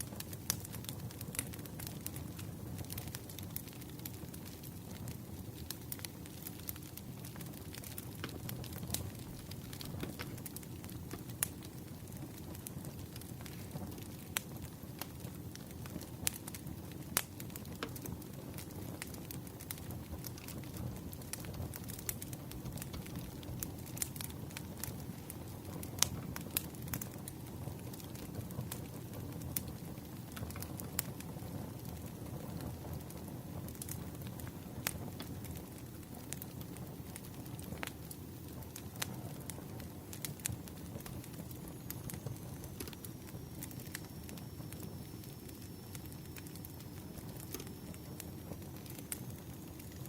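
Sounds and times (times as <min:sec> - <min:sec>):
low rumble of burning logs: 0:00.0 - 0:50.0
wood fire crackling: 0:00.0 - 0:50.0.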